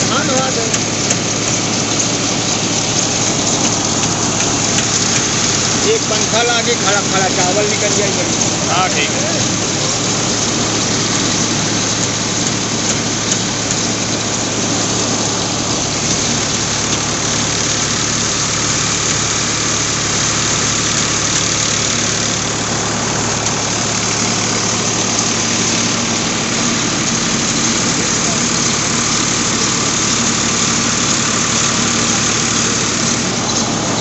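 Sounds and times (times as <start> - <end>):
diesel engine droning: 0.0 - 34.0
hiss of machine and grain: 0.0 - 34.0.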